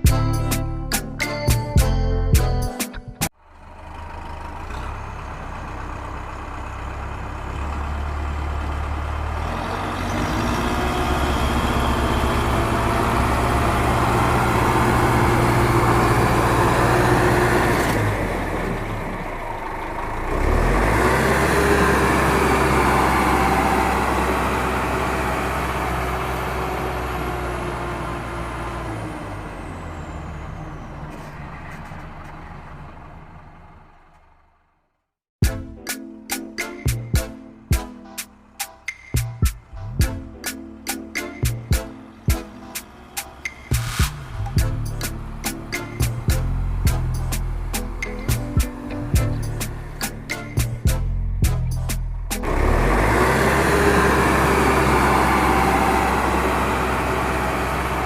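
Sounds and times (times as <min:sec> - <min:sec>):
heavy vehicle engine running: 0:03.3 - 0:35.1, 0:36.9 - 0:58.0.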